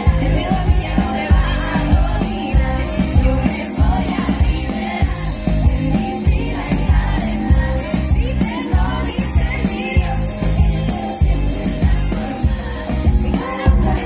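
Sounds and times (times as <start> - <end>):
pop music with singing: 0.0 - 14.0.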